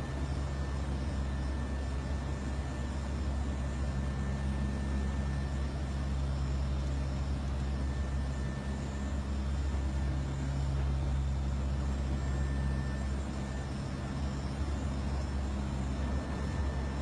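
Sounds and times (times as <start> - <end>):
aircraft engines and airflow drone: 0.0 - 17.0
faint thin steady tone: 0.0 - 17.0.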